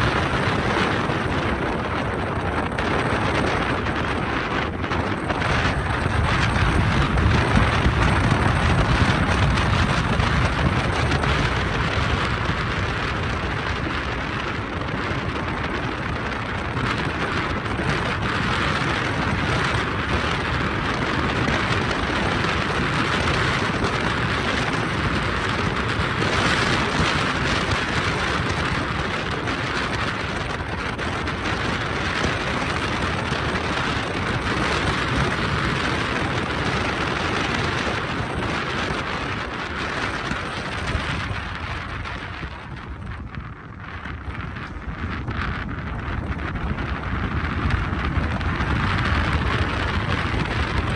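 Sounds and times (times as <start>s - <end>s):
car driving on paved road: 0.0s - 50.9s.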